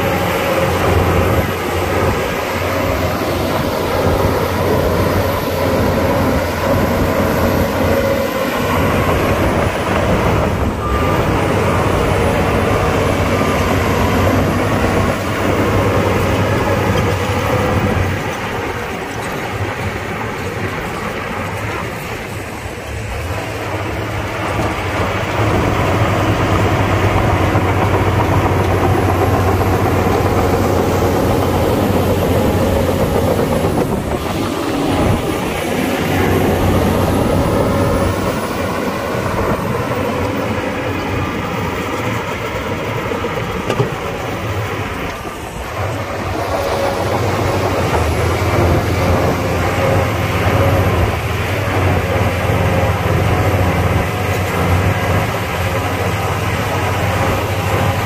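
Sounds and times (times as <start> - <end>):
heavy diesel engines droning: 0.0 - 58.0.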